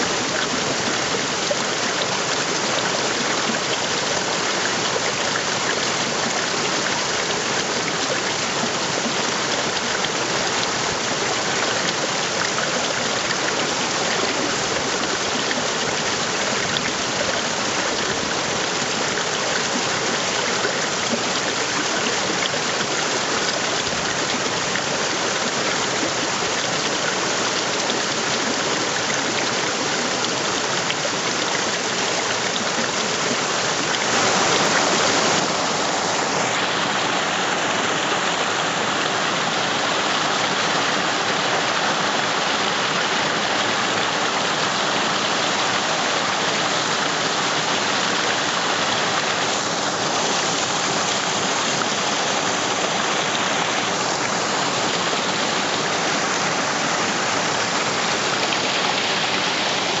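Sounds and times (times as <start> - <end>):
creek cascading over rocks: 0.0 - 60.0.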